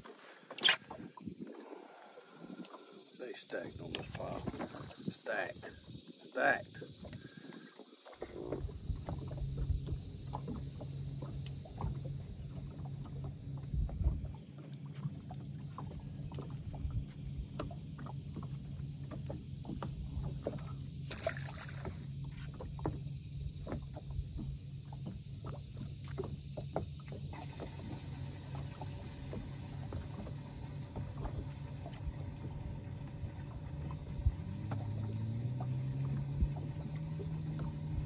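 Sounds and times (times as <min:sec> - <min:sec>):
waves lapping against hull: 0:00.0 - 0:38.0.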